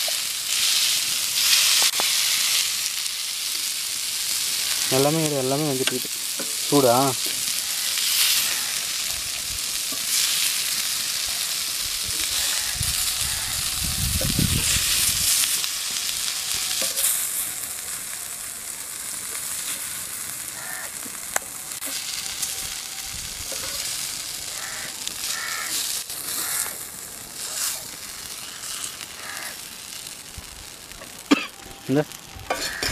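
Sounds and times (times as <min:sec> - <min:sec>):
fish sizzling in hot oil: 0:00.0 - 0:32.9.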